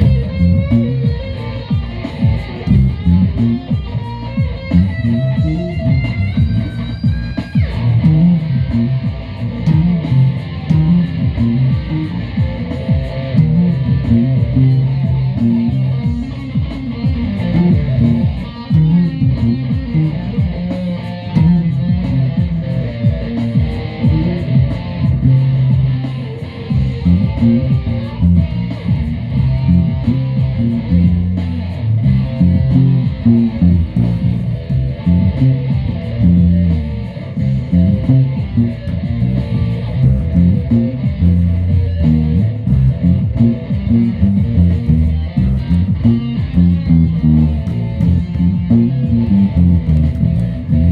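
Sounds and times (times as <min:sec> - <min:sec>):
guitar playing: 0:00.0 - 0:50.9.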